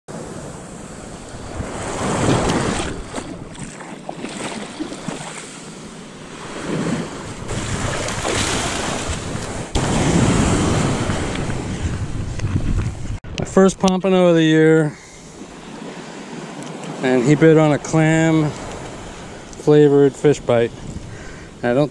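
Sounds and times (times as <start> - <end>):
wind buffeting microphone: 0.1 - 13.8, 15.4 - 21.6
ocean surf washing on beach: 0.1 - 21.9.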